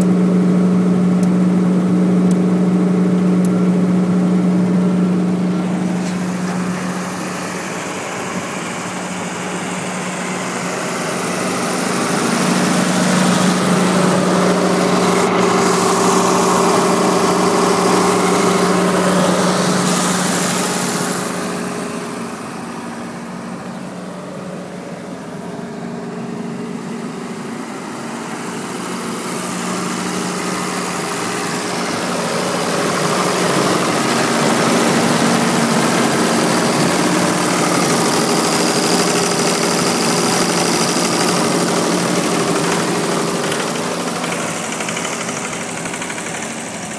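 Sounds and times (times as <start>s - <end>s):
diesel generator running: 0.0s - 46.9s.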